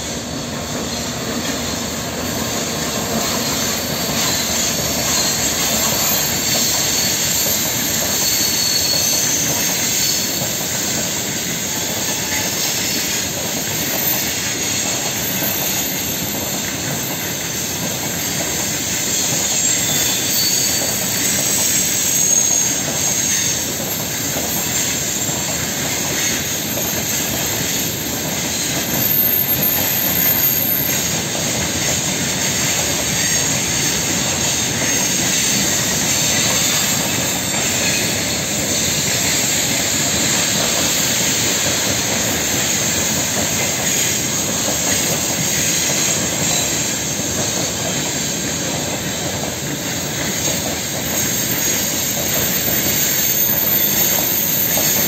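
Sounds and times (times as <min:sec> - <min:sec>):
train wheels rumbling on rail: 0:00.0 - 0:55.0
wheel squeal: 0:00.0 - 0:55.0.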